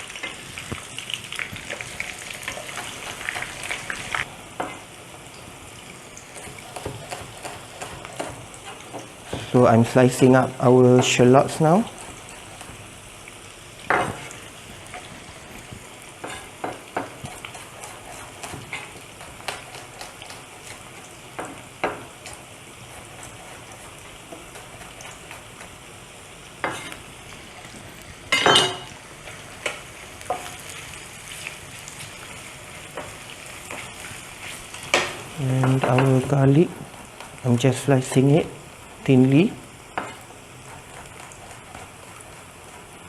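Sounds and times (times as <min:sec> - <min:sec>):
spices sizzling in hot oil: 0:00.0 - 0:43.0.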